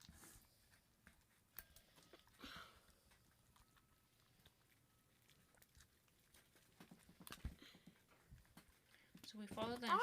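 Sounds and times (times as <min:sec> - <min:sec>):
slime stirred in a bowl: 0:00.0 - 0:10.0.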